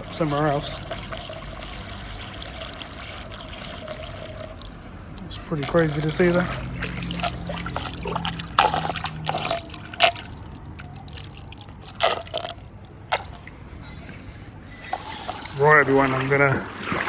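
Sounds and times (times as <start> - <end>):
water gurgling down drain: 0.0 - 4.8, 5.6 - 13.6, 14.9 - 17.0
water splashes: 0.0 - 14.0, 14.9 - 17.0.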